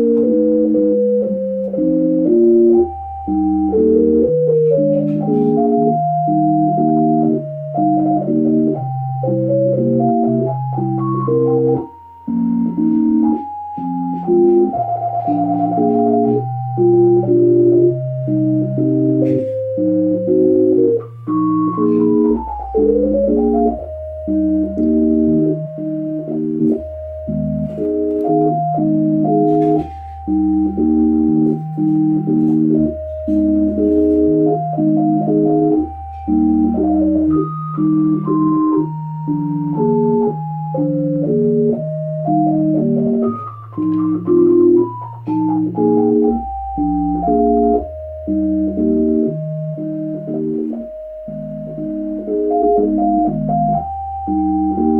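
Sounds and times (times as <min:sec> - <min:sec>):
organ-like electronic tune: 0:00.0 - 0:54.9.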